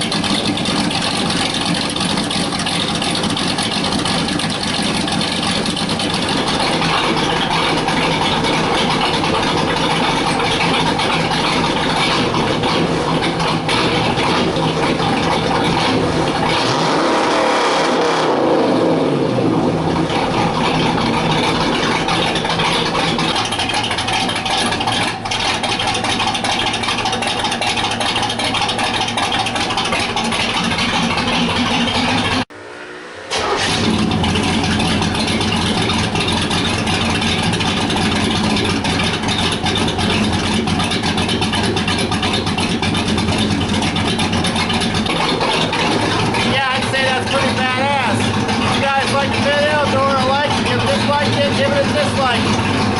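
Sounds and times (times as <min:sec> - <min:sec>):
loud car engine running: 0:00.0 - 0:52.9.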